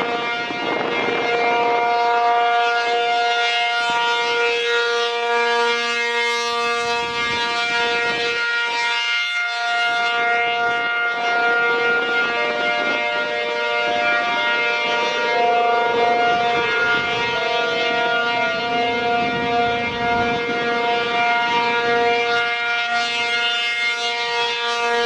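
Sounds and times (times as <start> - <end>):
warning siren chord: 0.0 - 25.0.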